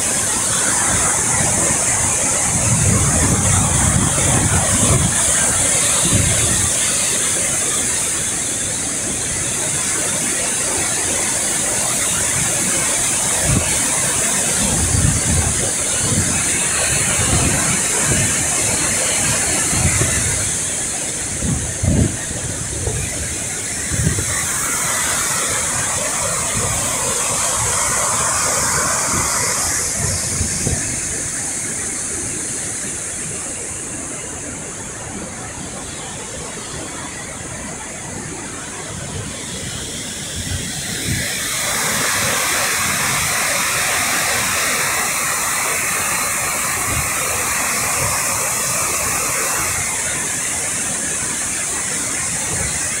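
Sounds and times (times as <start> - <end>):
waterfall roaring: 0.0 - 53.0
wind buffeting microphone: 0.0 - 53.0.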